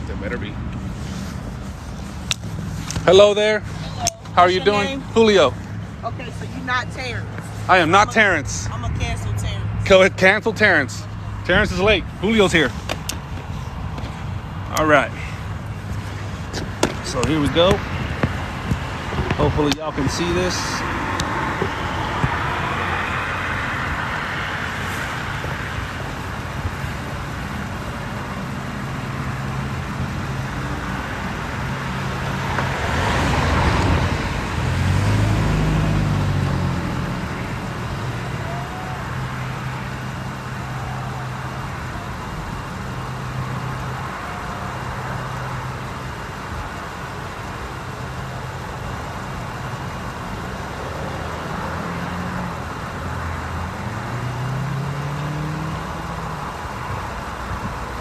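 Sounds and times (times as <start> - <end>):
highway traffic: 0.0 - 58.0
loud vehicle passing: 0.0 - 58.0.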